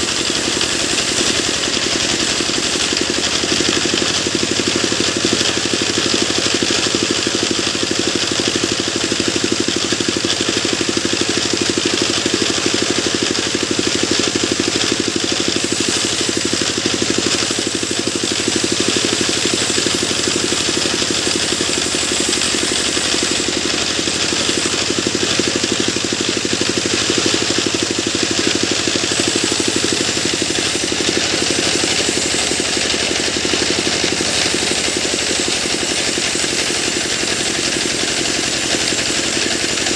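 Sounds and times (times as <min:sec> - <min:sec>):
sawmill machine running: 0:00.0 - 0:39.9.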